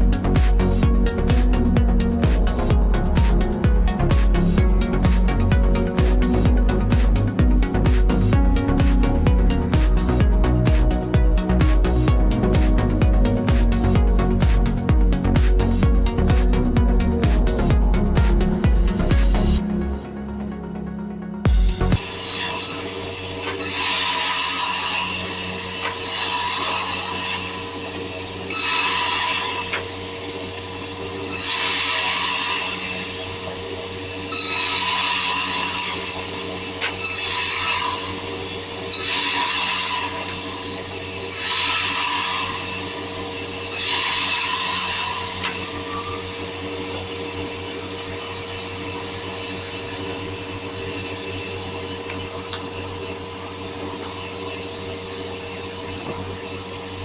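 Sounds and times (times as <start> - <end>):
saw cutting through wood: 0.0 - 19.8, 21.7 - 57.0
saw machine humming: 0.0 - 57.0.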